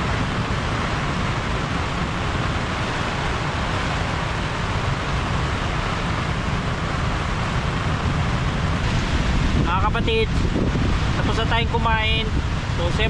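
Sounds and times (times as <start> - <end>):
heavy rain hissing: 0.0 - 13.0
wind buffeting microphone: 0.0 - 13.0.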